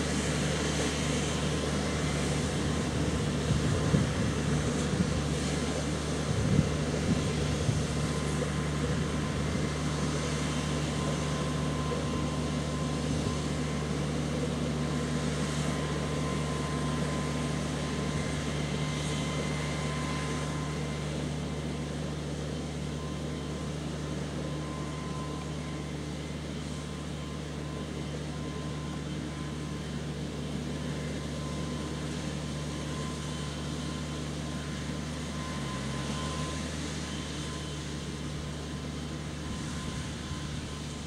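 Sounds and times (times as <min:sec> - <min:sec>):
thin steady whine: 0:00.0 - 0:41.0
tractor diesel engine: 0:00.0 - 0:41.0.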